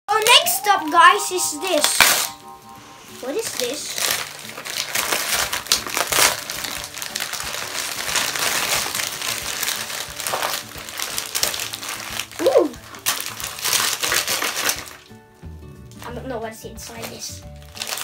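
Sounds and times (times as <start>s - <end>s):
wrapping paper tearing and crumpling: 0.1s - 2.5s, 3.2s - 15.2s, 16.8s - 18.0s.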